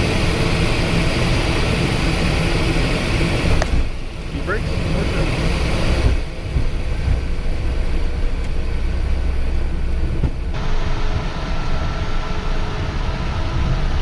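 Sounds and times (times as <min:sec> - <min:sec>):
vehicle running rumble and hiss: 0:00.0 - 0:14.0.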